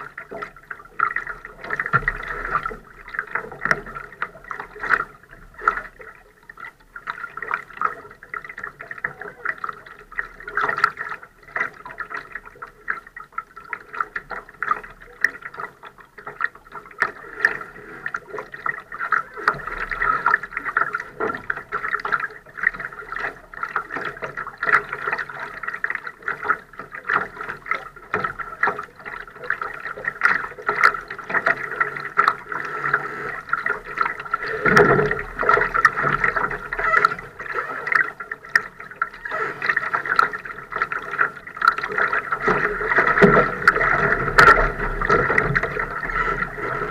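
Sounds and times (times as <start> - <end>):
steady watery wash: 0.0 - 46.9
waves slapping boat hull: 0.0 - 46.9.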